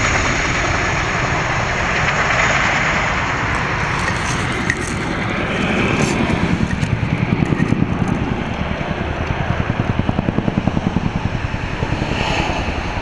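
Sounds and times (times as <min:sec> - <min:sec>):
helicopter rotors chopping: 0:00.0 - 0:13.0
low engine rumble: 0:00.0 - 0:13.0.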